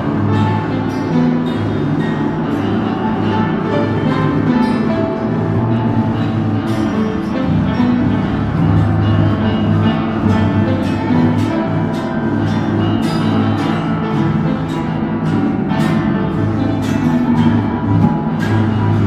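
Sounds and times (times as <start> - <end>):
industrial electronic music: 0.0 - 19.0.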